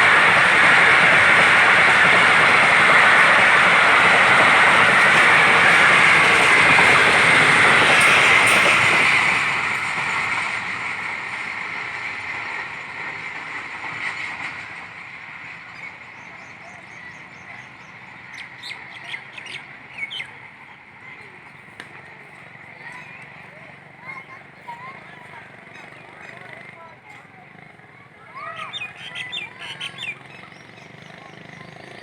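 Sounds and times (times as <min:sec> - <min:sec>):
train wheels rushing on rails: 0:00.0 - 0:32.0.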